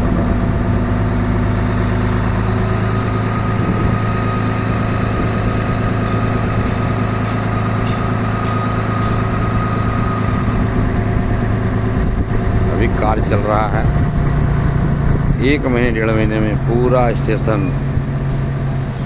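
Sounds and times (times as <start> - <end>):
heavy engine idling: 0.0 - 19.0
thin steady whine: 0.0 - 19.0.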